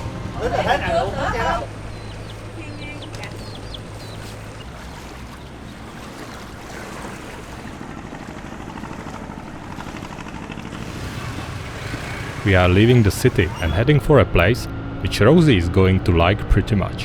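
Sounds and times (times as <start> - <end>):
small boat motor running: 0.0 - 17.0
water rushing past hull: 0.0 - 17.0.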